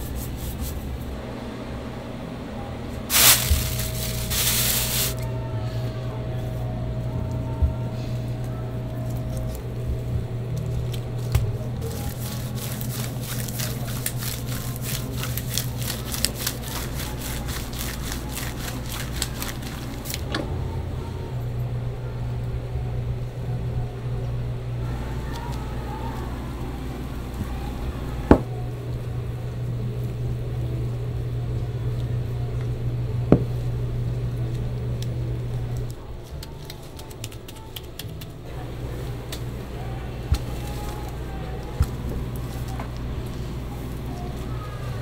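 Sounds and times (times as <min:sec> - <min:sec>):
kitchen equipment humming: 0:02.8 - 0:45.0.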